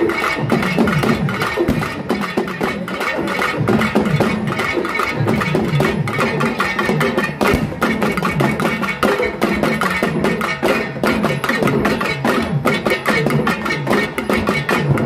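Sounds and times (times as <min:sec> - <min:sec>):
frame drums struck with sticks: 0:00.0 - 0:15.0.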